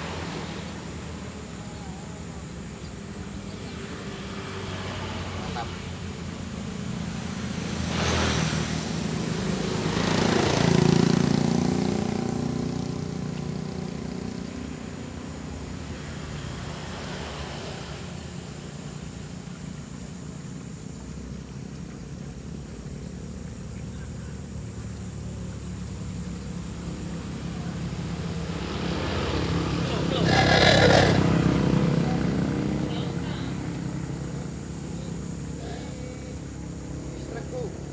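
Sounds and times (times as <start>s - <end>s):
vehicle driving past: 0.0s - 20.2s, 21.0s - 37.9s
low engine hum: 0.0s - 37.9s.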